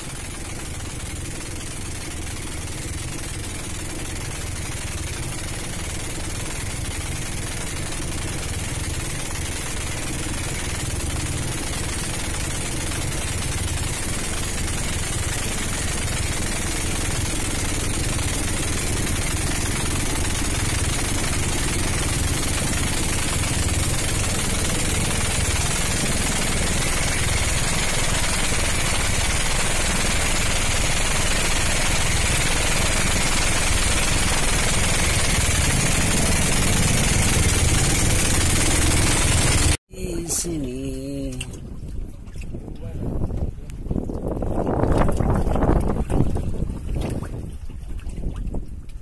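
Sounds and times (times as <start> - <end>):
boat engine running: 0.0 - 48.6.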